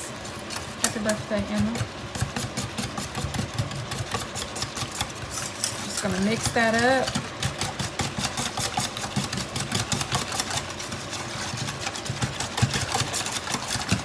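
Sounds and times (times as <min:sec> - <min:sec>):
whisk clicking against metal pot: 0:01.7 - 0:14.0.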